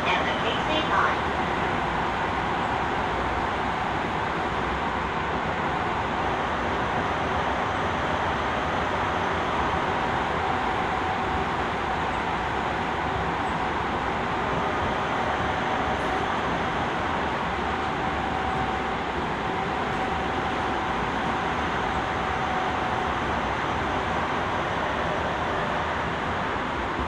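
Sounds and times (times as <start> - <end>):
faint steady whine: 0.0 - 27.0
train wheels rumbling on rail: 0.0 - 27.0.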